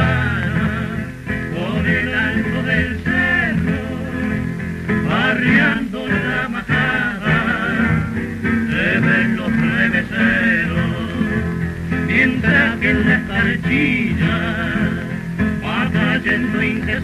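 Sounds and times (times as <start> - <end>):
guitars playing: 0.0 - 17.0
two men singing in duet: 0.0 - 17.0.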